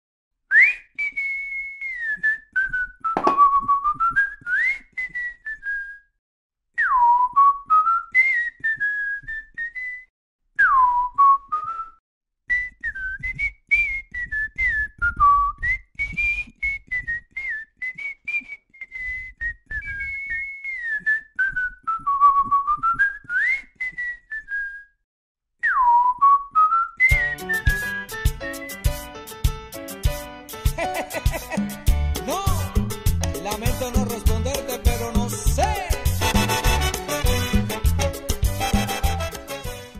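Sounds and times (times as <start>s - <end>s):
person whistling a tune: 0.5s - 6.2s, 6.8s - 25.0s, 25.6s - 29.1s, 30.7s - 39.6s.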